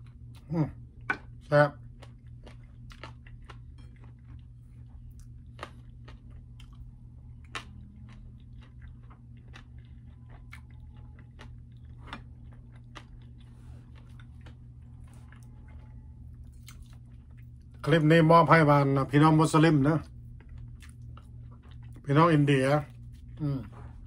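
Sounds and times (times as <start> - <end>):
person chewing food: 0.0 - 17.8, 20.0 - 24.0
steady low hum: 0.0 - 24.0.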